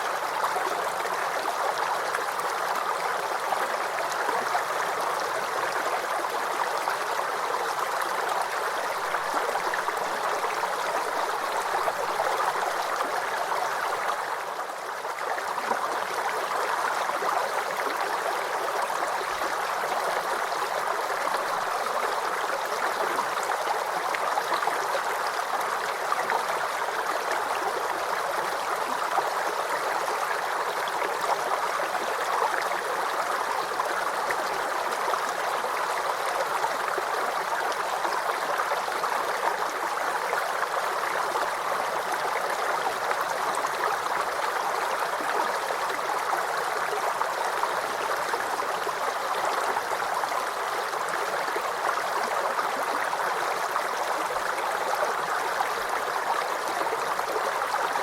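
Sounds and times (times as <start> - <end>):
creek babbling and gurgling: 0.0 - 58.0.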